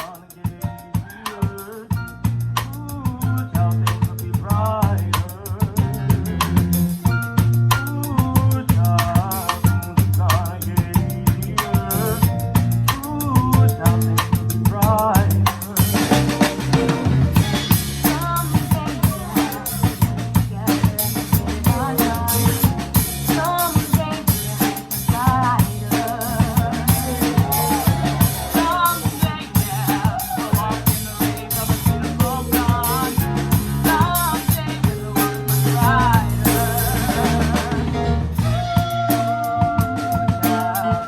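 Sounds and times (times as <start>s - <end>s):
drum kit hits: 0.0s - 41.0s
live pop-rock band: 0.0s - 41.0s.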